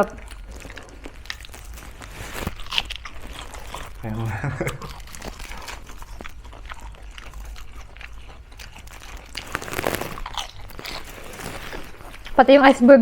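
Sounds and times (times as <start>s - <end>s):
chewing crisp food: 0.0s - 13.0s.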